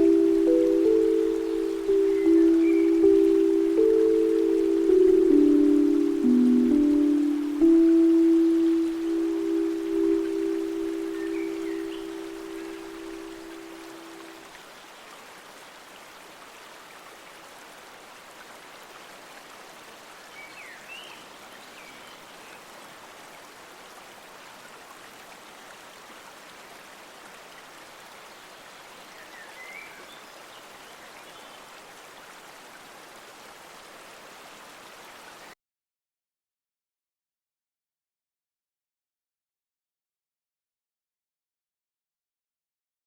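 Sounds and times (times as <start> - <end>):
light rain on leaves: 0.0 - 35.6.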